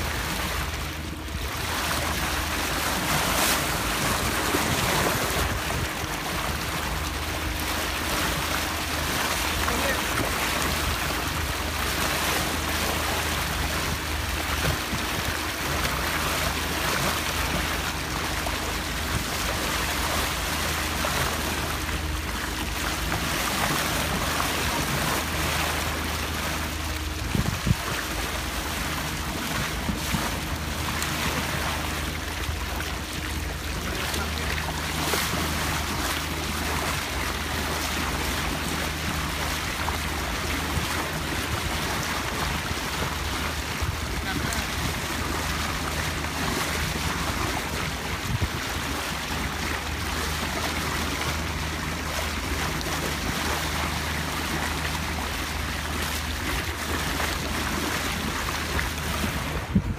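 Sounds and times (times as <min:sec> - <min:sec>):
boat engine droning: 0:00.0 - 0:59.9
water rushing along boat hull: 0:00.0 - 0:59.9.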